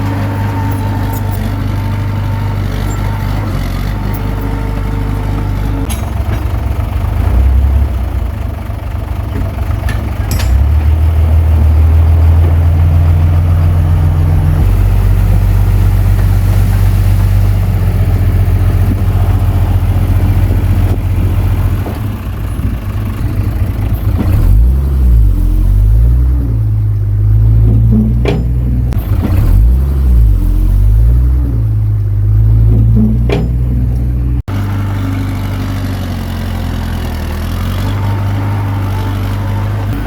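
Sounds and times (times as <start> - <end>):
bulldozer diesel engine droning: 0.0 - 40.0.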